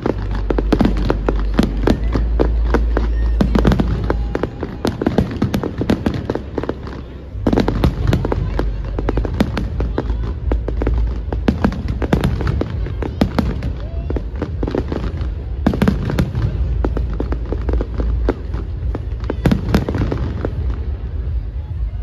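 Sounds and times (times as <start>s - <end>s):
fireworks cracking and popping: 0.0s - 22.0s
steady low rumble: 0.0s - 22.0s.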